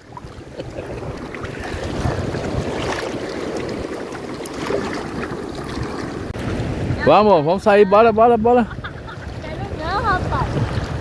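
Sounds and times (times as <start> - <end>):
surf washing and splashing: 0.0 - 11.0.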